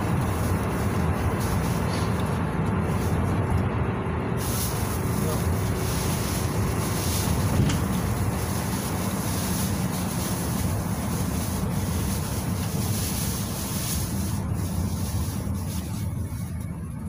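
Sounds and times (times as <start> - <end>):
engine and road noise drone: 0.0 - 17.0.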